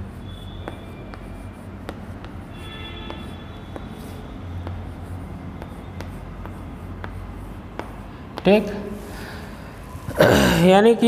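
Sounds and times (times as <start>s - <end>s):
chalk tapping and scratching: 0.0s - 9.1s.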